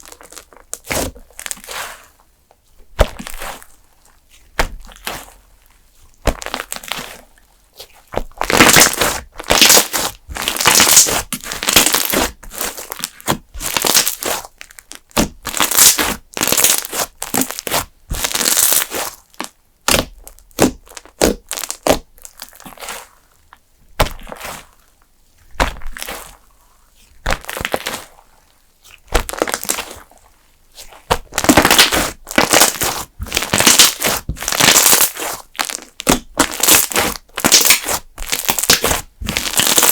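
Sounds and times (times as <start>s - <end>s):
hands squishing crackling slime: 0.0s - 39.9s.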